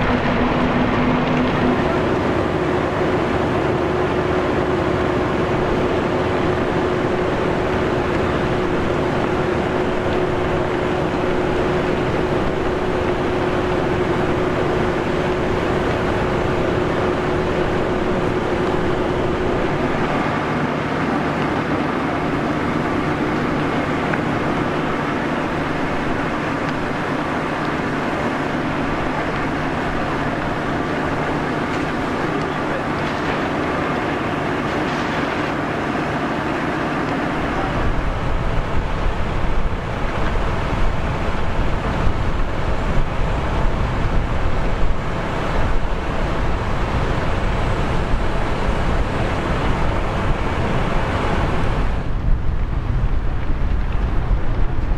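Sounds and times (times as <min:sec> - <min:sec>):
engine hum: 0:00.0 - 0:54.9
water streams rushing: 0:00.0 - 0:54.9
wind buffeting microphone: 0:00.0 - 0:54.9.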